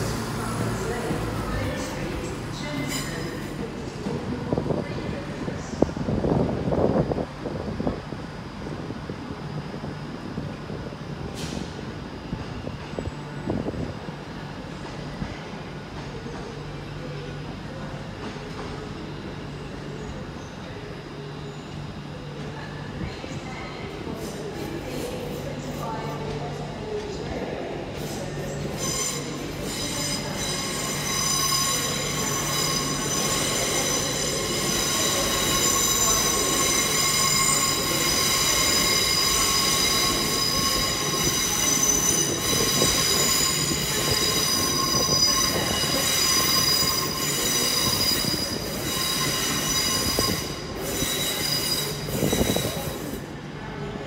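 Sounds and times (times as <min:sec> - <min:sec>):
train wheels squealing on rails: 0:00.0 - 0:07.9, 0:09.5 - 0:53.9
train rumble: 0:00.0 - 0:54.0.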